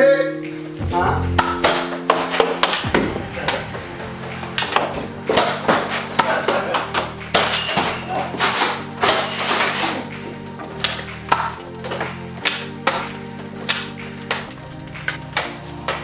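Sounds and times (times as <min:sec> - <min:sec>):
music with bass line: 0:00.4 - 0:16.0.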